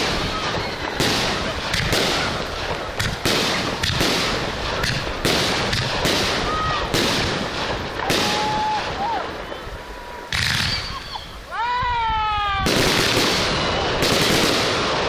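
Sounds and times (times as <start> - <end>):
firework shells bursting: 0.0 - 11.6, 12.6 - 15.0
firework whistling: 0.0 - 15.0.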